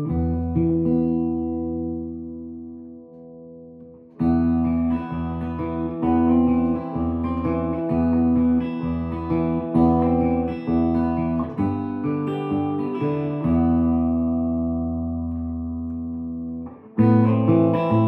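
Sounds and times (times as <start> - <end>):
electric guitar playing chords: 0.0 - 18.0.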